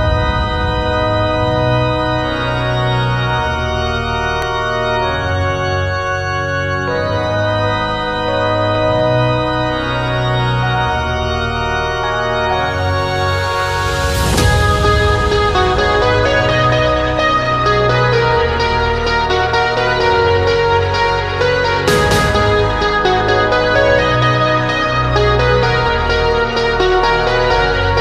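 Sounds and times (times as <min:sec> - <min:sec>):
sustained music chords: 0:00.0 - 0:28.0.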